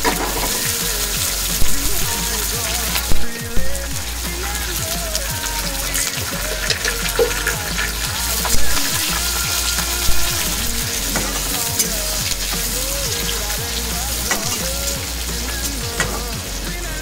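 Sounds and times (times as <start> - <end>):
background music with low beat: 0.0 - 17.0
food sizzling in a frying pan: 0.0 - 17.0.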